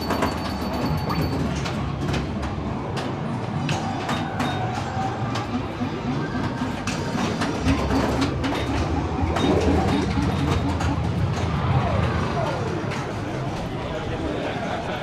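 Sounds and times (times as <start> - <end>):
pinball flippers clicking and clacking: 0.0 - 13.7
machine noise din: 0.0 - 15.0.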